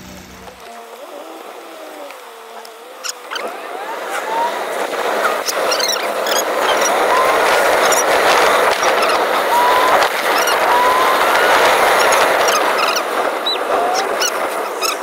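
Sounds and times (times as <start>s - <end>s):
road and wind noise in car: 0.0s - 15.0s.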